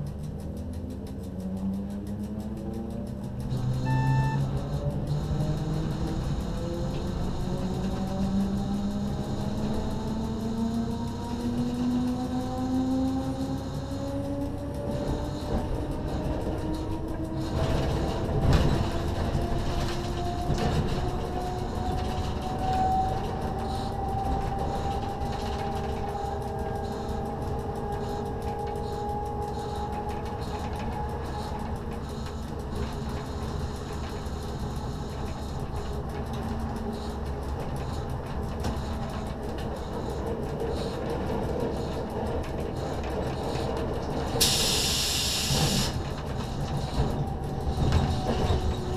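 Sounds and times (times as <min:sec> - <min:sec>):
train rolling noise: 0:00.0 - 0:48.9
train traction whine: 0:00.0 - 0:48.9.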